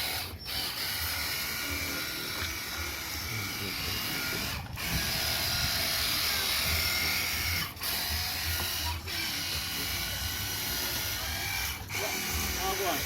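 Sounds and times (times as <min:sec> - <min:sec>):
pressure washer motor whine: 0:00.0 - 0:13.0.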